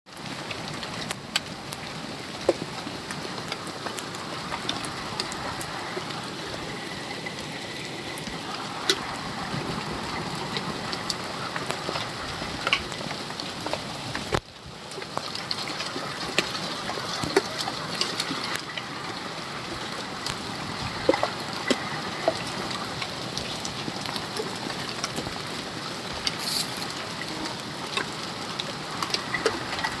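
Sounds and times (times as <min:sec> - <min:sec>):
rain drop clicks: 0:00.1 - 0:30.0
steady rain falling: 0:00.1 - 0:30.0.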